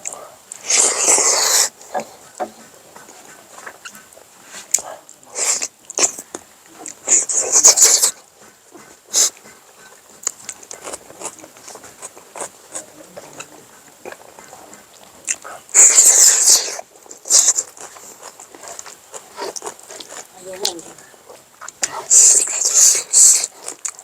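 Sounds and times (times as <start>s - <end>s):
person slurping: 0.0s - 8.2s, 8.8s - 14.4s, 15.2s - 24.0s
chewing and mouth clicks: 0.0s - 24.0s.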